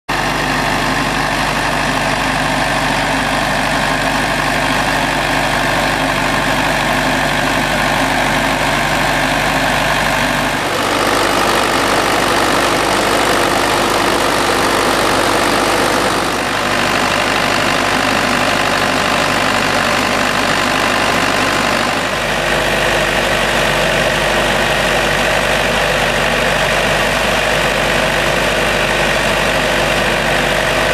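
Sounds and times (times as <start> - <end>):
diesel pump engine running: 0.1 - 30.9.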